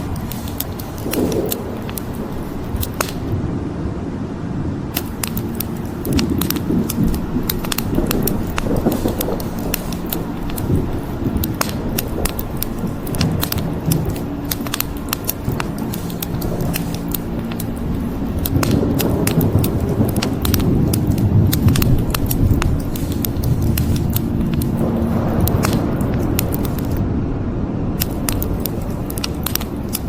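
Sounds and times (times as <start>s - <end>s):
wood fire crackling: 0.0s - 3.4s, 4.9s - 27.0s, 28.0s - 30.0s.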